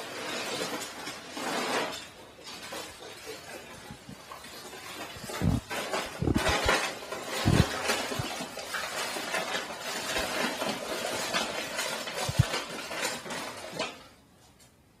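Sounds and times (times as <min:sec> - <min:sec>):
dogs crunching dry kibble: 0:00.0 - 0:14.1.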